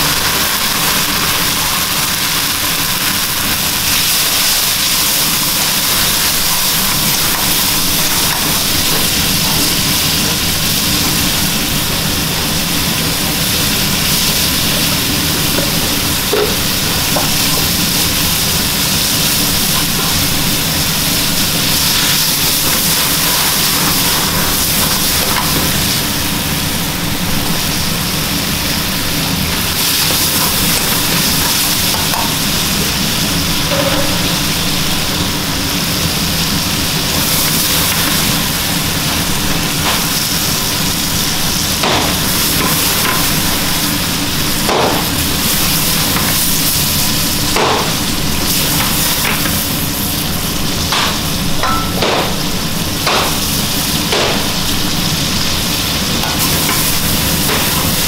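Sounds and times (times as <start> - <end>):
food sizzling in a wok: 0.0 - 58.0
gas flame hissing: 0.0 - 58.0.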